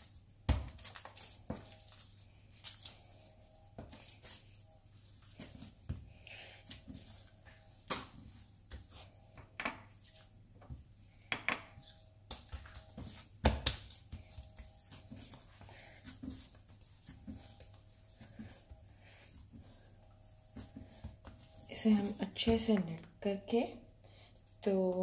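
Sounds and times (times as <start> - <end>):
dough kneaded on stone countertop: 0.0 - 25.0.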